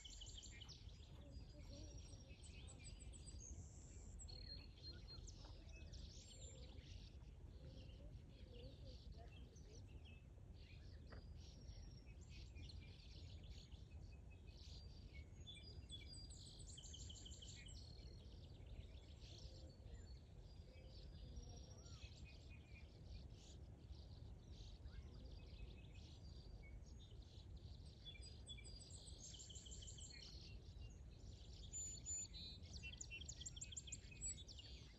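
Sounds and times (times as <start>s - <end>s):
small birds chirping and singing: 0.0s - 34.9s.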